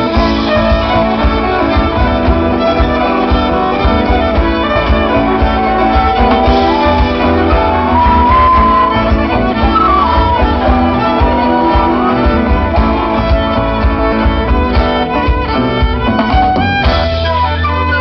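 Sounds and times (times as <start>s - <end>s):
bass guitar: 0.0s - 18.0s
drums: 0.0s - 18.0s
electric guitars: 0.0s - 18.0s
violin melody: 0.0s - 18.0s.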